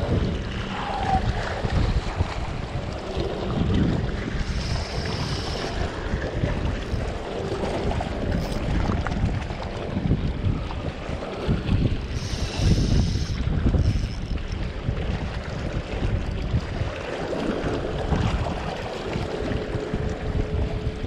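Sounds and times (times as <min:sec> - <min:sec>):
sea water washing among rocks: 0:00.0 - 0:21.0
wind buffeting microphone: 0:00.0 - 0:21.0.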